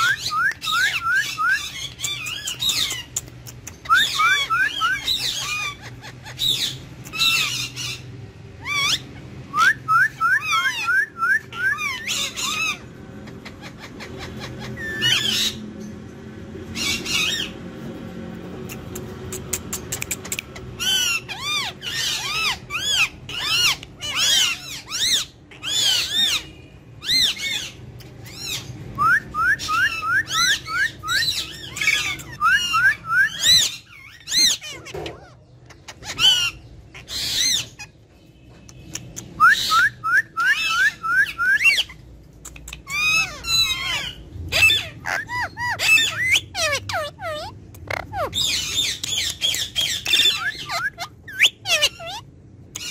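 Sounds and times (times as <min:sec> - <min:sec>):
parakeets chirping and squawking: 0:00.0 - 0:52.9.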